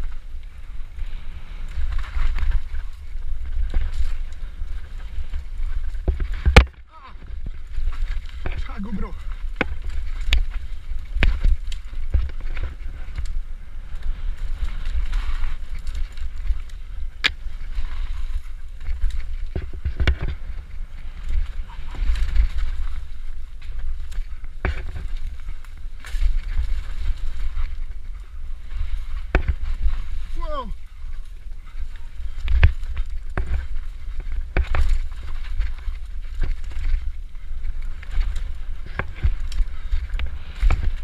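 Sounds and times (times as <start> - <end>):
tyres rolling over leaves and dirt: 0.0 - 41.0
wind rumble on microphone: 0.0 - 41.0
bike knocks and rattles: 1.8 - 13.2, 13.9 - 28.0, 32.2 - 41.0.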